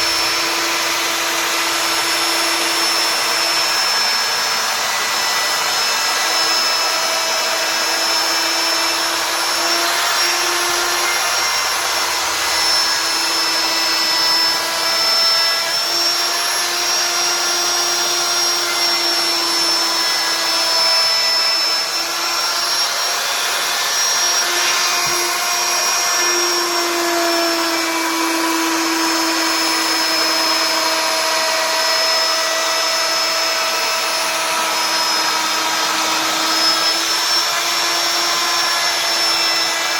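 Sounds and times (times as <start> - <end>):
router spindle motor whining: 0.0 - 39.9
wood cutting noise: 0.0 - 39.9.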